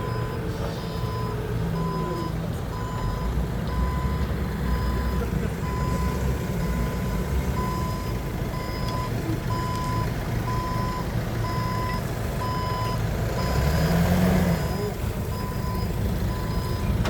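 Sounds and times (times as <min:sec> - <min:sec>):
reversing alarm beeping: 0:00.0 - 0:16.9
forklift engine rumble: 0:00.0 - 0:17.0.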